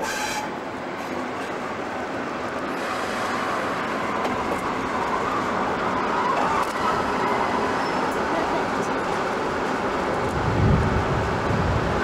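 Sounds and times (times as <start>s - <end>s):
electric locomotive rolling: 0.0s - 12.0s.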